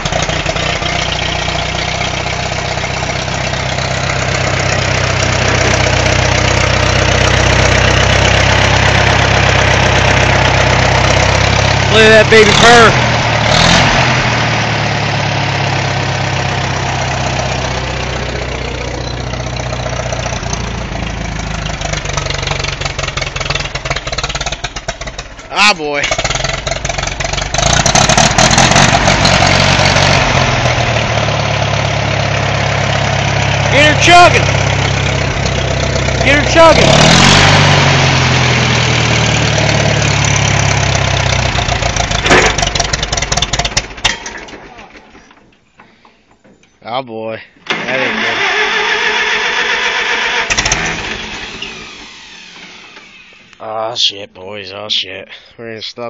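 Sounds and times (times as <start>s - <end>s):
tractor engine idling: 0.0s - 46.8s, 47.4s - 54.2s.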